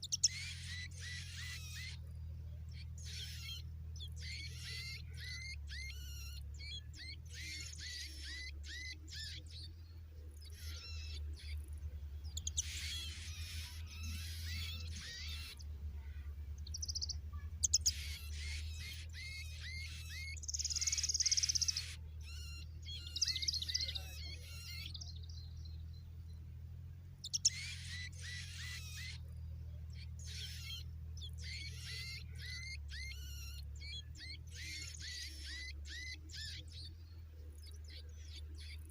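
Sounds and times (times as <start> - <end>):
steady low hum: 0.0 - 38.9
young birds chirping: 0.0 - 38.9.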